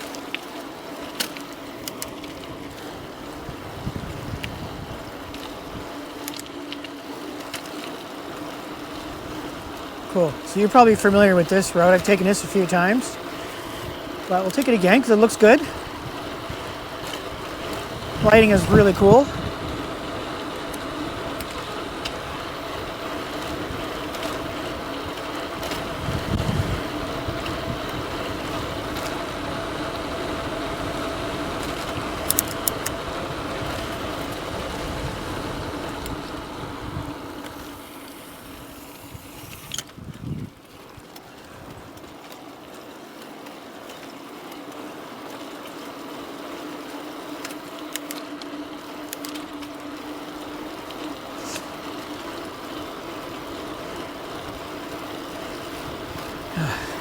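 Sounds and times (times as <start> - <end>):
electric bike motor whining: 0.0 - 57.0
wind: 0.0 - 57.0.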